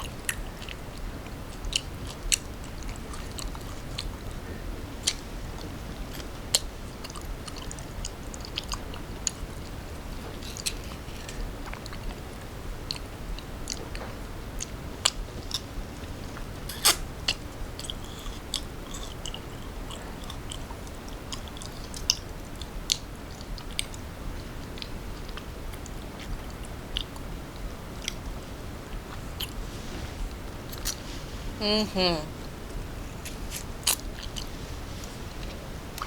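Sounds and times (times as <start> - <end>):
wet clicks while chewing: 0.0 - 4.4, 5.0 - 15.8, 16.4 - 29.6, 33.3 - 34.5
close chewing with crisp crunches: 0.0 - 31.6, 32.3 - 36.0.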